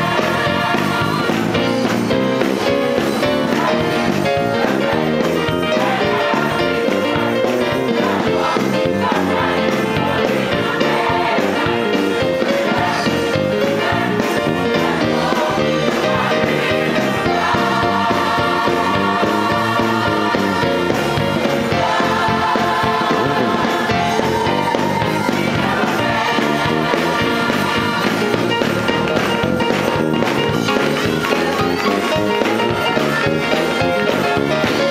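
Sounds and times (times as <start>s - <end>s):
gospel choir singing: 0.0s - 34.9s
live band accompaniment: 0.0s - 34.9s.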